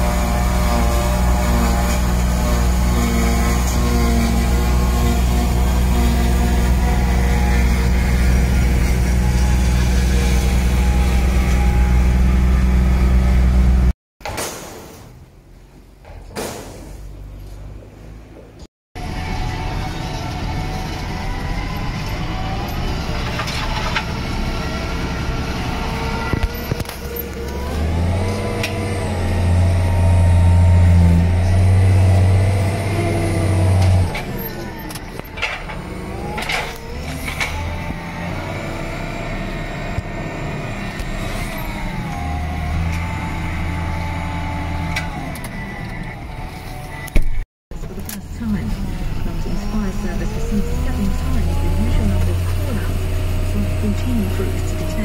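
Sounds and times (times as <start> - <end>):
tractor engine running: 0.0 - 13.9, 19.0 - 55.0.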